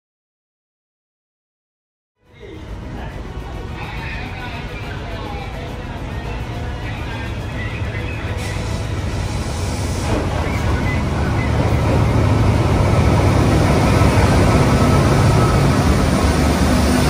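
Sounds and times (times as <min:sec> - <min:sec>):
locomotive engine hum: 0:02.2 - 0:17.0
wheels rumbling on rails: 0:02.3 - 0:17.0.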